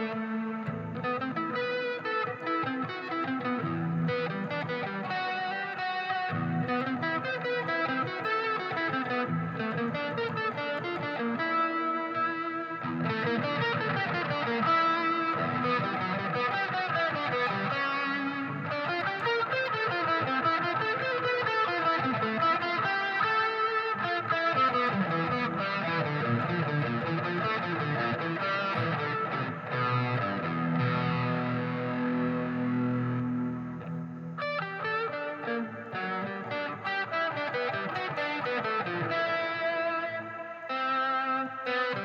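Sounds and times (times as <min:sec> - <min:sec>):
overdriven electric guitar: 0:00.0 - 0:42.0.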